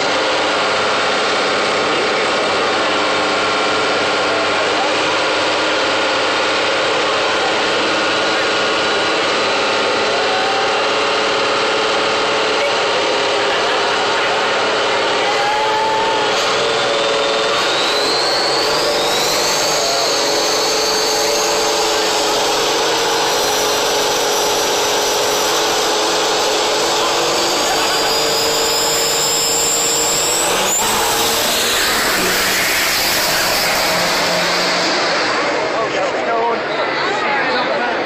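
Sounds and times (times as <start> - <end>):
diesel engine accelerating: 0.0 - 38.0
high turbo whine: 0.0 - 38.0.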